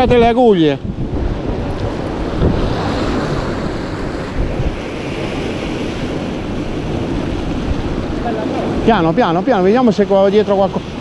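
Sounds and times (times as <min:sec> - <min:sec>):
sea surf breaking on rocks: 0:00.0 - 0:11.0
wind rumbling on microphone: 0:00.0 - 0:11.0.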